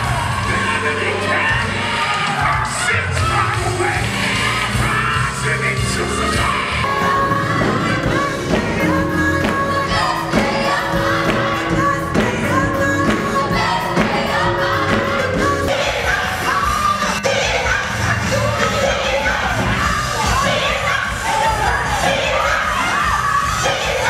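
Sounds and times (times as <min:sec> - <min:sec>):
band accompaniment: 0:00.0 - 0:24.0
gospel singing: 0:00.0 - 0:24.0.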